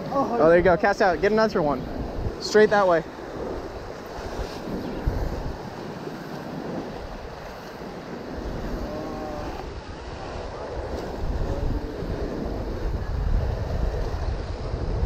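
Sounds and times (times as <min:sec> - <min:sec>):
surf washing on rocky shore: 0:00.0 - 0:15.0
wind buffeting microphone: 0:00.0 - 0:15.0.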